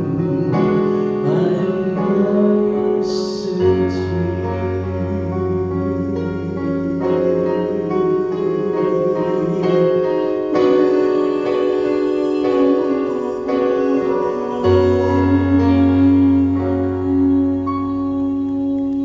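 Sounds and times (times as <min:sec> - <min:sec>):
keyboard chords: 0:00.0 - 0:19.0.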